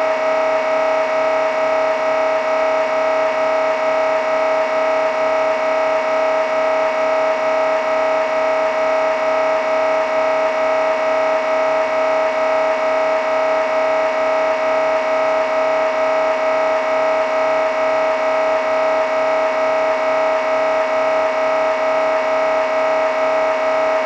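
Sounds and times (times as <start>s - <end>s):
mri scanner pulsing buzz: 0.0s - 24.0s.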